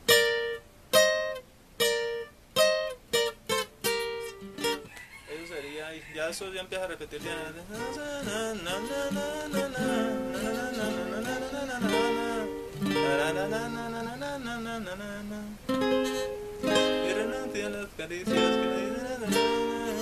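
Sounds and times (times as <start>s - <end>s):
guitar picking a melody: 0.0s - 4.9s, 7.1s - 20.0s.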